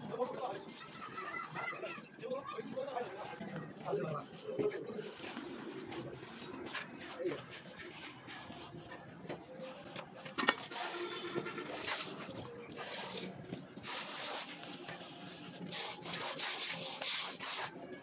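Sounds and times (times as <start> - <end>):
hand float scraping wet plaster: 2.2 - 17.8.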